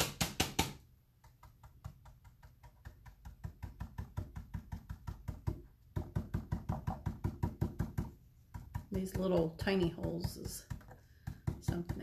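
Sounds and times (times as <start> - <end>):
stencil brush tapping on board: 0.0 - 12.0.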